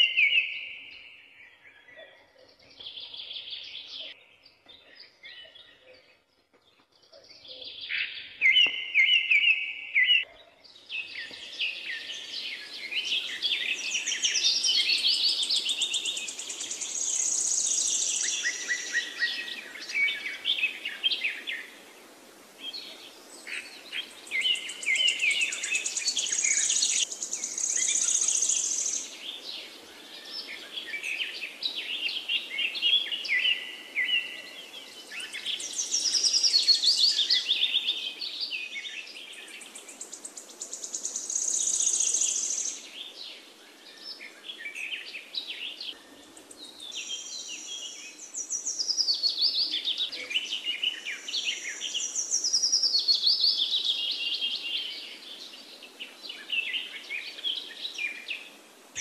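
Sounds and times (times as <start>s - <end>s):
songbirds chirping and singing: 0.0s - 59.0s.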